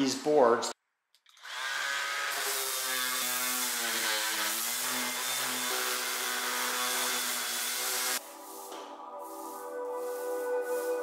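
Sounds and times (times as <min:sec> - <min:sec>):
orbital sander sanding: 0:01.5 - 0:11.0.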